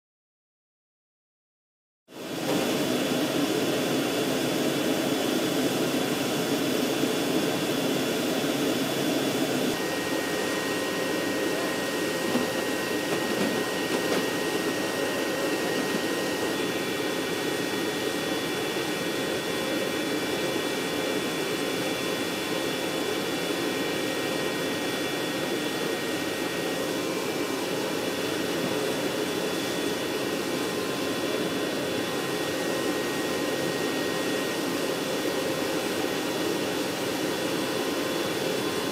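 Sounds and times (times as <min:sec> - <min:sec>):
helicopter turbine whining: 0:02.2 - 0:38.9.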